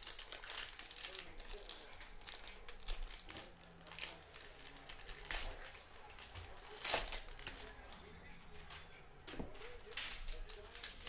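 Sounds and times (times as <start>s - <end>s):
cards and wrappers rustling: 0.0s - 11.0s.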